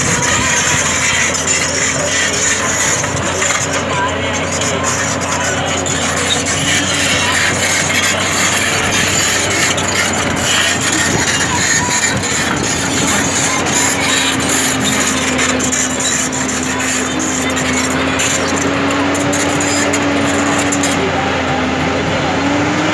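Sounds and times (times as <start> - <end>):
excavator diesel engine and hydraulics: 0.0 - 22.9.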